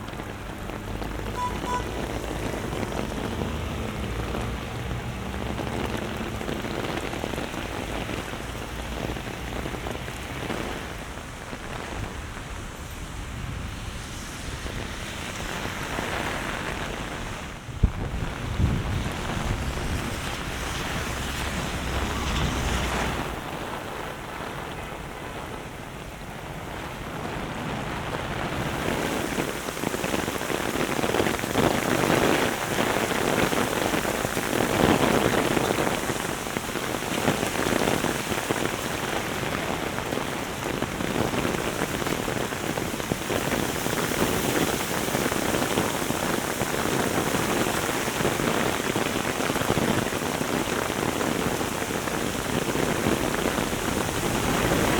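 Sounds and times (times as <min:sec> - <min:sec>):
heavy rain on hard surfaces: 0:00.0 - 0:54.9
wind buffeting microphone: 0:00.0 - 0:54.9.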